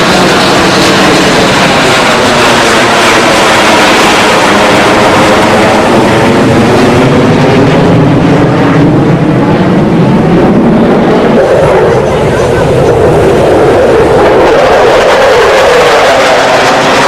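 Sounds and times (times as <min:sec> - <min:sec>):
jet passing overhead: 0:00.0 - 0:17.0.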